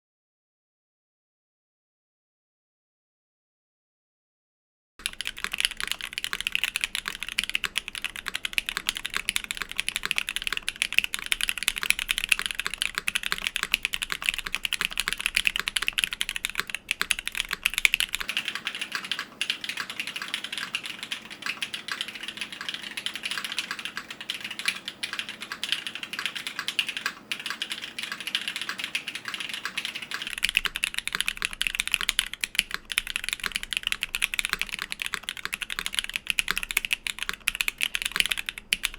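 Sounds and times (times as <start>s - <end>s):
mechanical keyboard typing: 5.0s - 38.9s.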